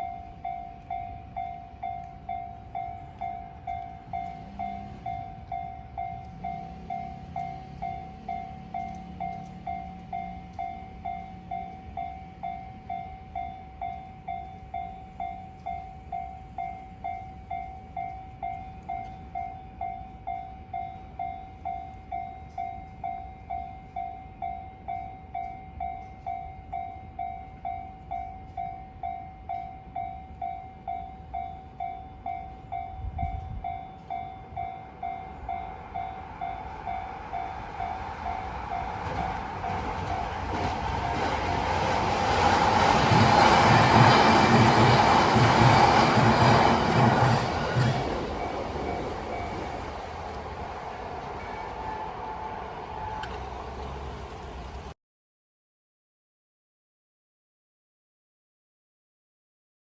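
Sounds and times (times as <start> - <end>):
level crossing warning bell: 0.0 - 50.4, 51.2 - 55.0
approaching train: 0.0 - 55.0.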